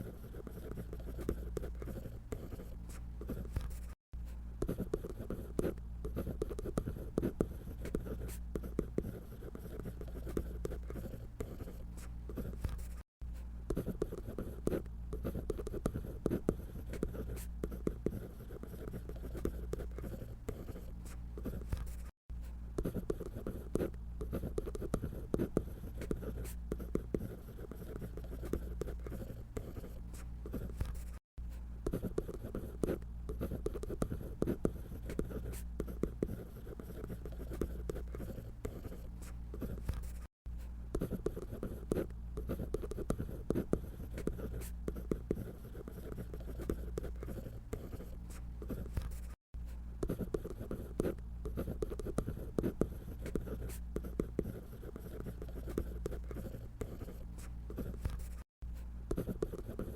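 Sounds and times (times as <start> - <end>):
pencil scratching on paper: 0.0 - 59.9.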